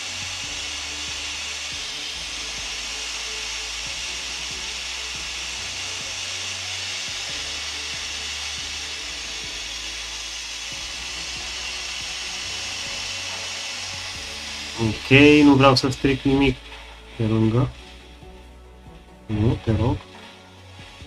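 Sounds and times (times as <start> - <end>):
hot air station hissing: 0.0 - 21.0.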